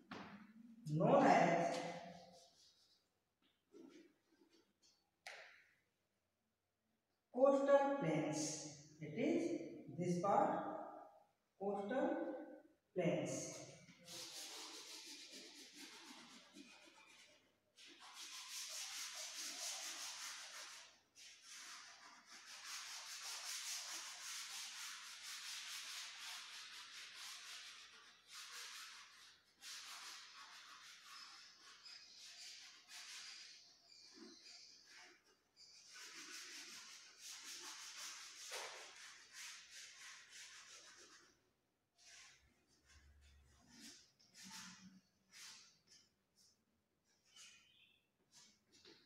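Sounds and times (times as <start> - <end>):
chalk scratching on chalkboard: 1.4 - 5.0, 13.3 - 49.0.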